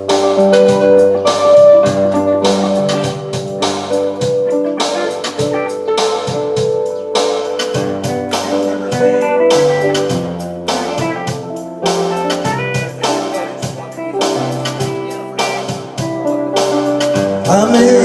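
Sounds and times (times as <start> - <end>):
guitar-led rock band music: 0.0 - 18.0.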